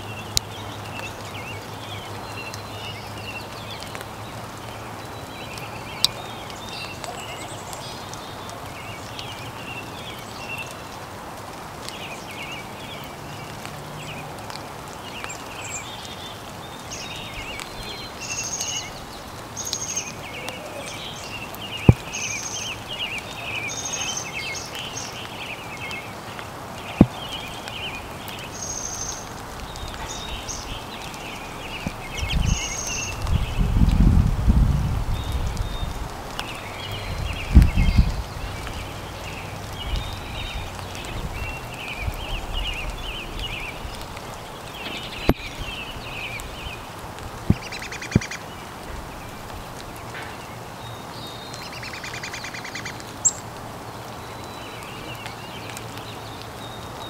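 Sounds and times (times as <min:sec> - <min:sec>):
songbirds chirping: 0:00.0 - 0:57.0
steady outdoor hiss: 0:00.0 - 0:57.0.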